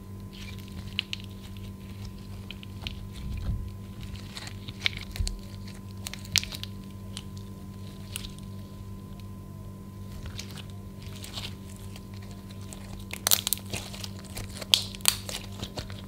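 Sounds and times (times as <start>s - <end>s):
steady low hum: 0.0s - 16.0s
slime popping and crackling: 0.2s - 9.4s, 10.0s - 16.0s.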